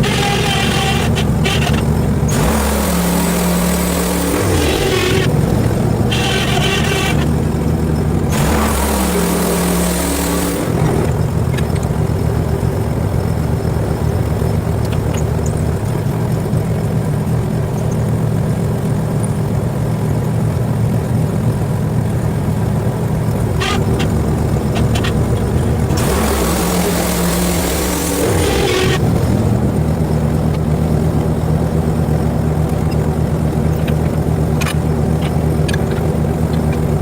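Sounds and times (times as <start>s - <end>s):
sawmill engine running: 0.0s - 37.0s.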